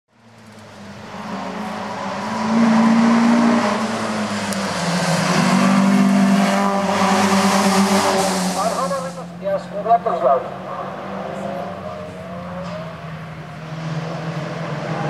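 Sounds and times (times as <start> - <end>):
race car engine at full throttle: 0.1 - 15.0.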